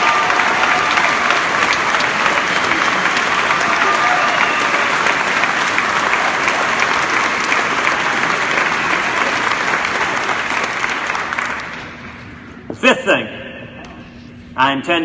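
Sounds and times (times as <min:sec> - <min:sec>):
crowd applauding and cheering: 0:00.0 - 0:12.3.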